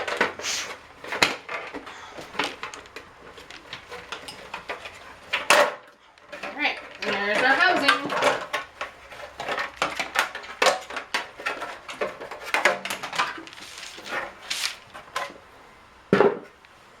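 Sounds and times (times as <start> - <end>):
plastic parts clicking and knocking: 0.0 - 15.4.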